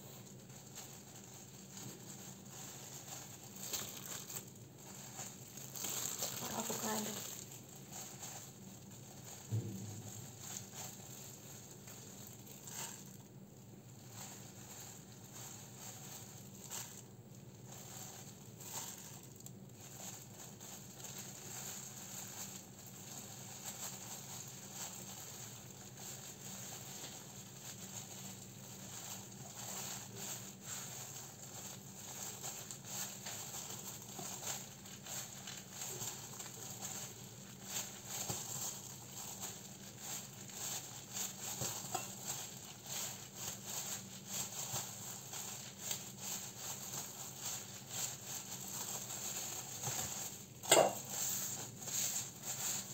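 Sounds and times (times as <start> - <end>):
plastic gloves crinkling: 0.0 - 52.9.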